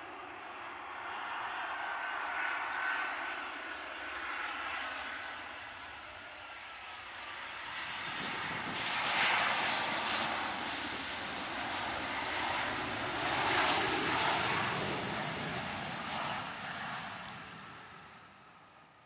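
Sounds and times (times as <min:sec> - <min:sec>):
jet engines roaring: 0:00.0 - 0:18.7.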